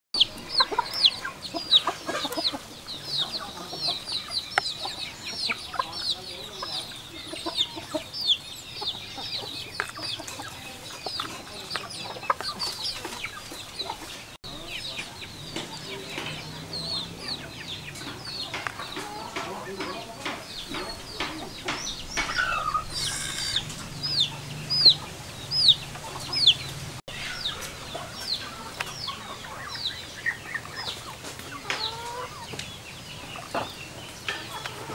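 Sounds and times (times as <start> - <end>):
chickens peeping: 0.2 - 34.9.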